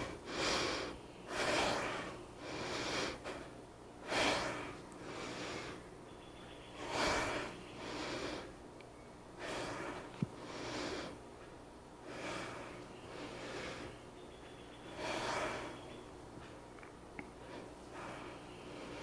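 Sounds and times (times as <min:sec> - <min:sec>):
woman breathing heavily: 0:00.0 - 0:05.9, 0:06.7 - 0:08.6, 0:09.3 - 0:11.3, 0:12.0 - 0:14.1, 0:14.8 - 0:16.6, 0:17.3 - 0:19.0.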